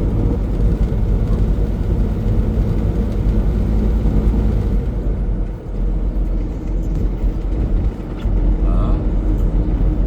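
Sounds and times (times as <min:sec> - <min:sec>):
truck engine and road noise: 0:00.0 - 0:10.0.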